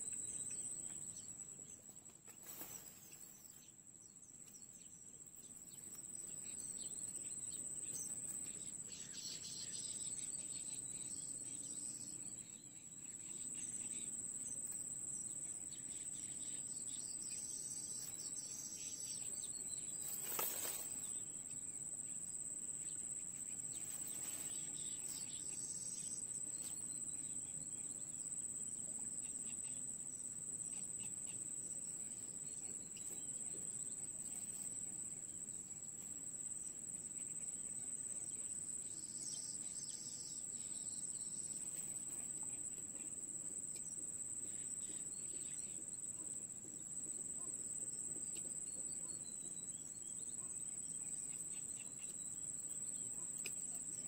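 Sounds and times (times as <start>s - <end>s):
faint chirps: 0.0s - 54.0s.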